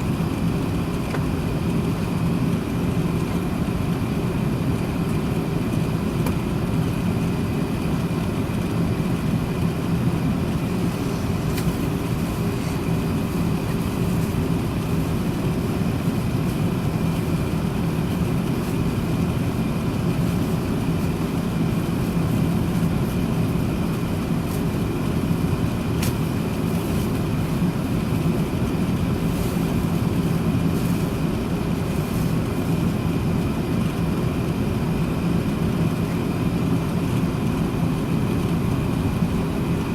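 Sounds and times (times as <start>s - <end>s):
aircraft engines rumbling in cabin: 0.0s - 39.9s.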